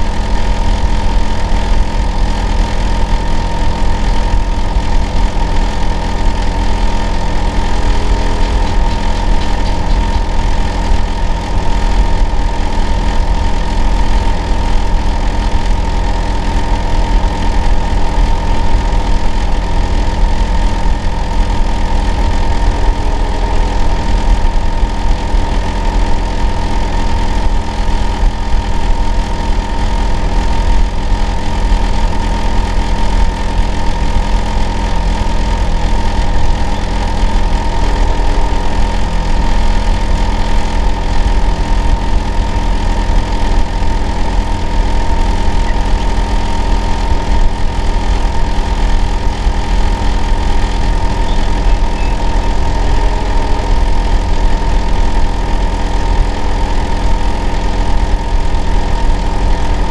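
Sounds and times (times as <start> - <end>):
air conditioner unit humming: 0.0 - 59.9.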